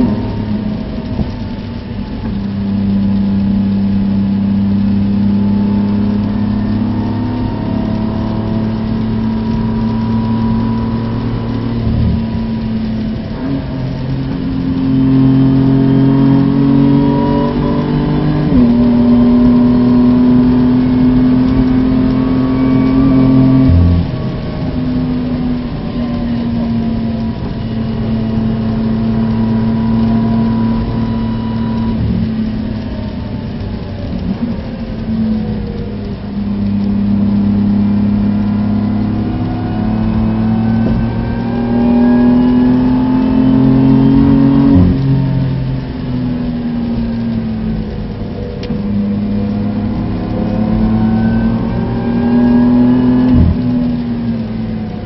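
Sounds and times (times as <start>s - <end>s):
car engine pulling hard: 0.0s - 55.0s
tyre noise on wet track: 0.0s - 55.0s.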